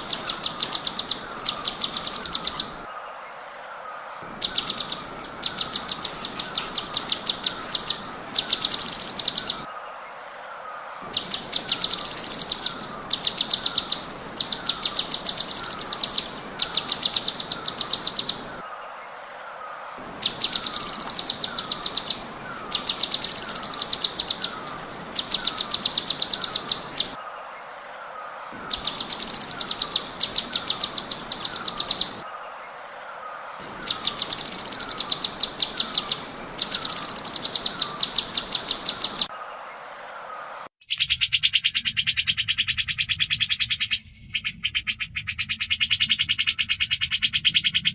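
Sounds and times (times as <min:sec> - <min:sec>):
bird clicking trills: 0:00.0 - 0:02.8, 0:04.4 - 0:09.7, 0:11.1 - 0:18.6, 0:20.1 - 0:27.2, 0:28.6 - 0:32.2, 0:33.6 - 0:39.3, 0:40.8 - 0:47.9.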